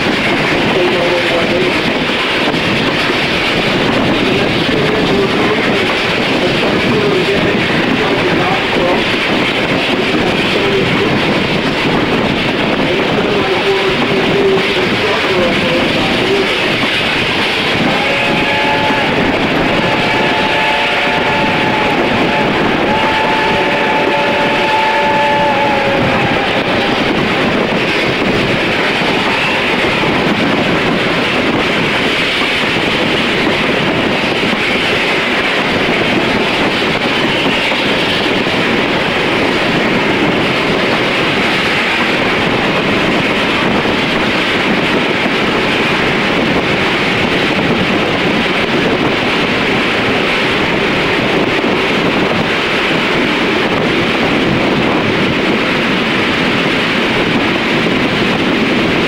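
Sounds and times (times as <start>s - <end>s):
train wheel and rail noise: 0.0s - 59.0s
wind on microphone: 0.0s - 59.0s.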